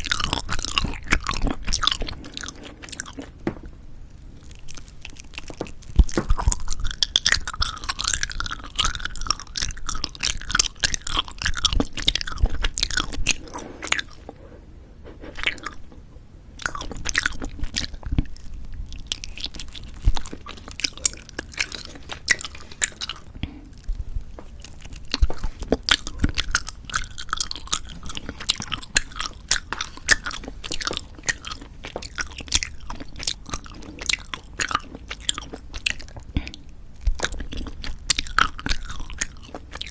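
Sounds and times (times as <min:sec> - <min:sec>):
chewing jelly candy: 0:00.0 - 0:14.4, 0:15.2 - 0:39.9.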